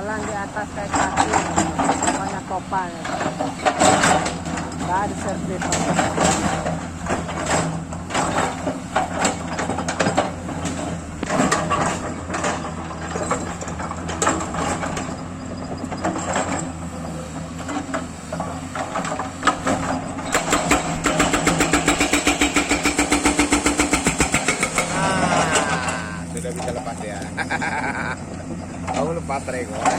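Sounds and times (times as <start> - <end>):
excavator diesel engine running: 0.0 - 29.9
sharp metal knocks and clunks: 0.1 - 27.3, 28.5 - 29.9.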